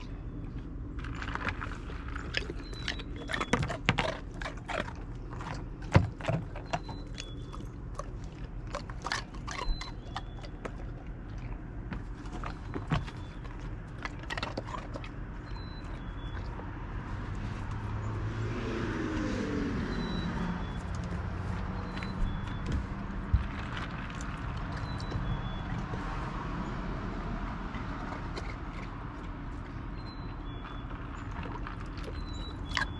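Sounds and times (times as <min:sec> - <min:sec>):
dog crunching ice cubes: 0:00.0 - 0:17.9, 0:20.3 - 0:32.9.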